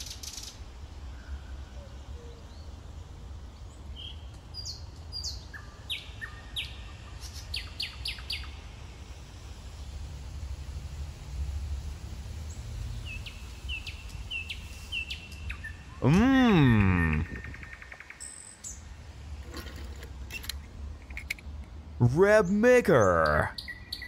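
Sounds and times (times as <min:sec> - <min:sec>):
small birds chirping: 0:00.0 - 0:08.8, 0:12.4 - 0:19.1, 0:20.2 - 0:24.0.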